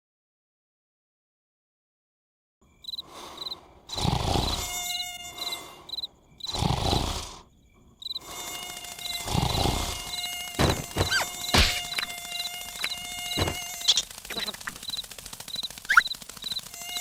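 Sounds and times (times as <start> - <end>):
cricket-like insect chirping: 2.6 - 17.0.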